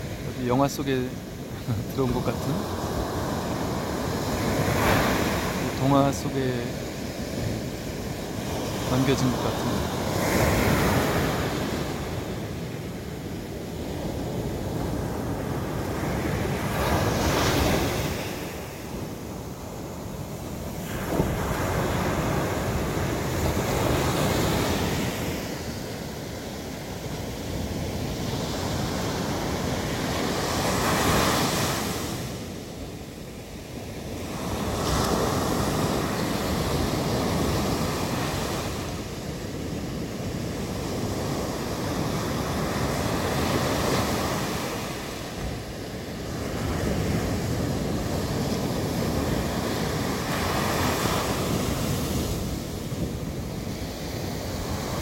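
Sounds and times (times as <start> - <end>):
sea waves breaking on beach: 0.0 - 55.0.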